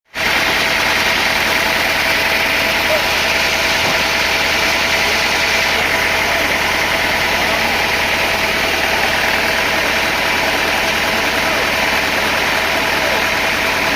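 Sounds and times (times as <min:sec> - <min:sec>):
sawmill machinery droning: 0:00.1 - 0:13.9.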